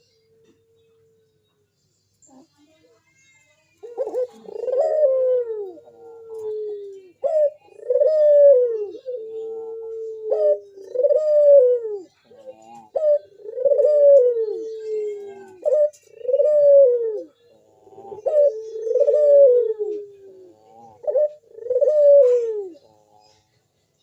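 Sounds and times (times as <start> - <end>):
dove cooing: 3.8 - 23.4.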